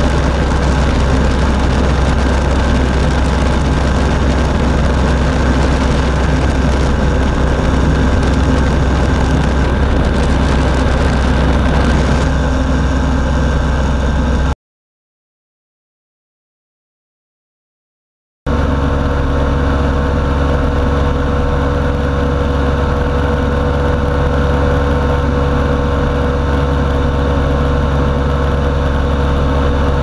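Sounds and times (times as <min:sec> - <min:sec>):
aircraft engine running: 0:00.0 - 0:14.6, 0:18.5 - 0:30.0.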